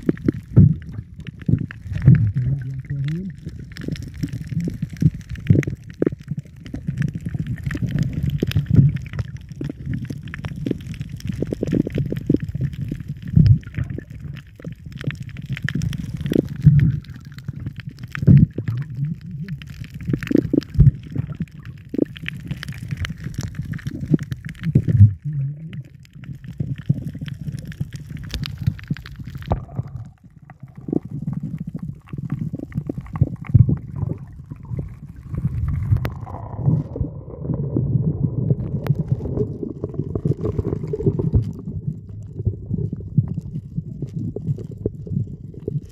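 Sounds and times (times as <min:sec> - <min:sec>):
underwater clicks and knocks: 0:00.0 - 0:37.0
muffled underwater water churn: 0:00.0 - 0:45.9.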